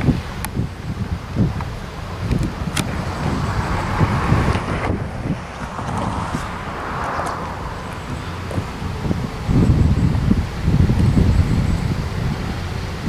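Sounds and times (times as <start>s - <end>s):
vehicle passing by: 0.0s - 11.5s
wind gusting on microphone: 0.0s - 13.0s.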